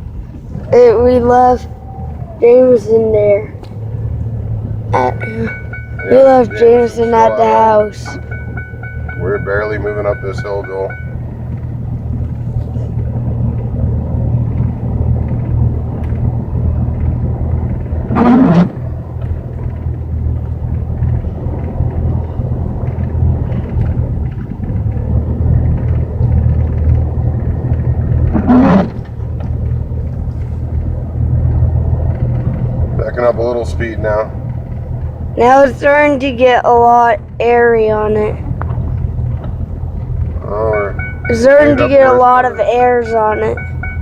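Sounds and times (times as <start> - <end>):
truck engine running under load: 0.0 - 44.0.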